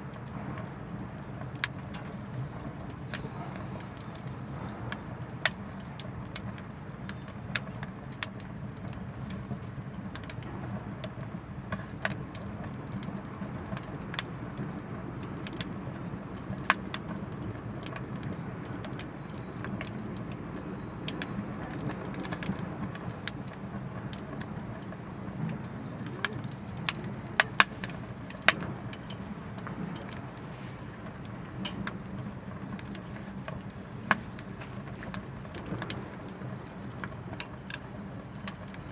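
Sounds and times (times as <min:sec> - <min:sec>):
fire rumbling in stove: 0:00.0 - 0:38.9
firewood crackling and popping: 0:00.0 - 0:38.9.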